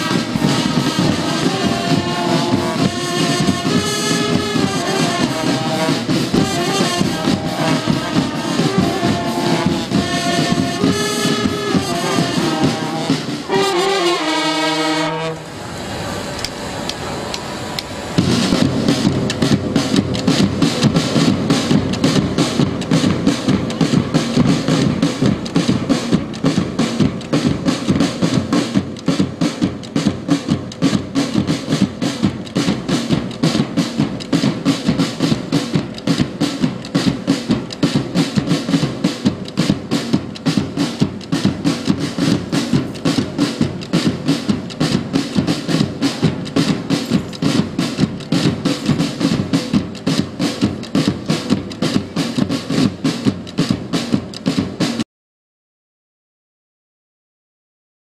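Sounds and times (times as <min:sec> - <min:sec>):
drums beating quick rhythm: 0:00.0 - 0:14.3, 0:18.2 - 0:55.0
marching band playing: 0:00.0 - 0:55.0.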